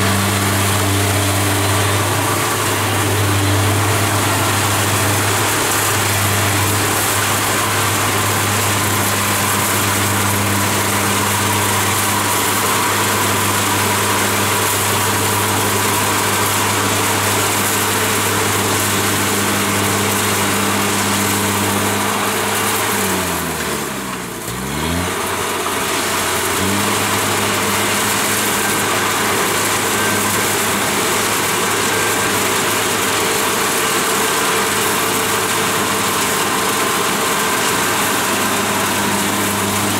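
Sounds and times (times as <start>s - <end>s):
combine cutting and threshing: 0.0s - 39.9s
diesel engine running: 0.0s - 39.9s.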